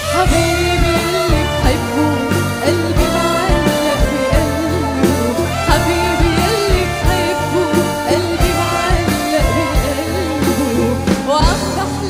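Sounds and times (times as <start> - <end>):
live band playing pop: 0.0 - 12.0
woman singing: 0.0 - 12.0.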